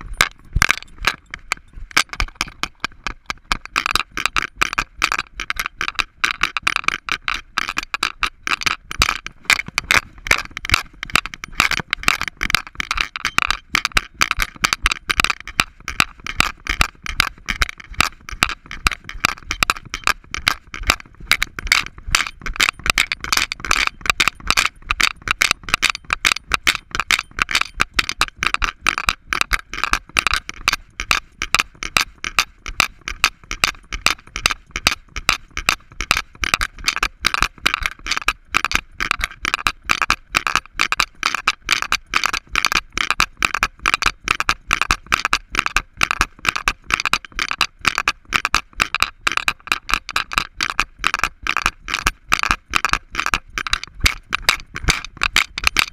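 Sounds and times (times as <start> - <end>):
camera harness rattling: 0.0 - 41.4, 45.6 - 55.9.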